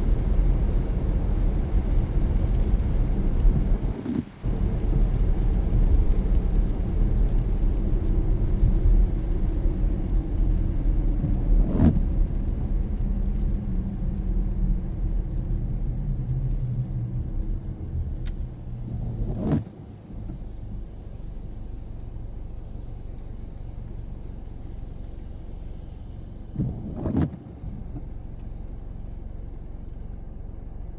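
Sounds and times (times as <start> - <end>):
car tyres and engine rumble: 0.0 - 30.9.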